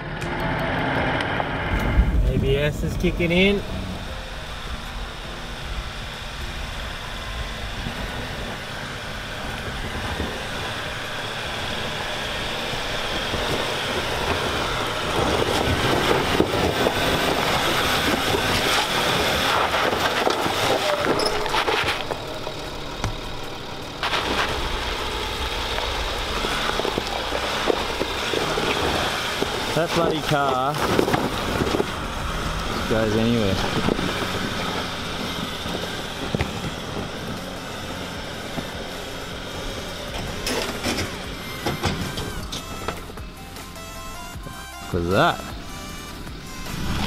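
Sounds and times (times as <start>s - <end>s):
engine working under load: 0.0s - 47.0s
tyres crunching over gravel: 1.0s - 47.0s.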